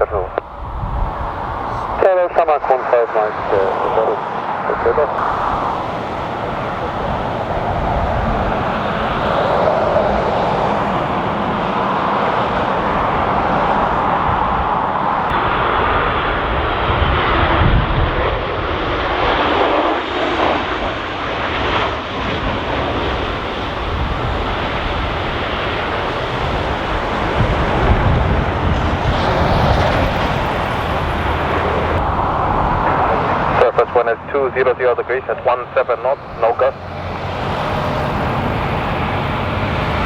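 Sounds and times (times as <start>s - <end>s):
wind rumbling on microphone: 0.0s - 2.5s, 3.4s - 34.0s
jet engines whining: 0.0s - 40.0s.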